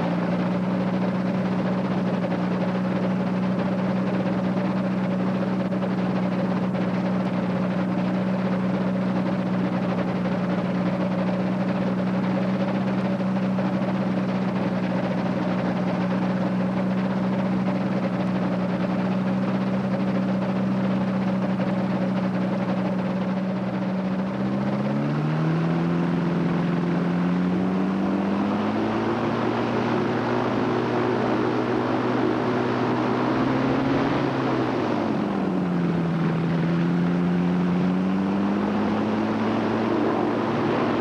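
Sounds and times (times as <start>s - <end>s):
two-stroke engine running: 0.0s - 41.0s.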